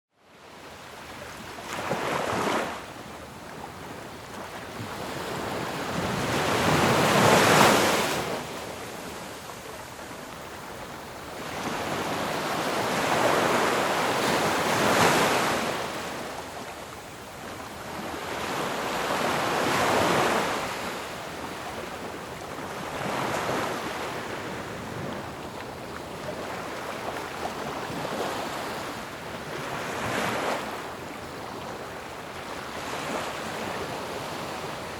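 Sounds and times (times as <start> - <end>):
ocean waves breaking: 3.6 - 34.9.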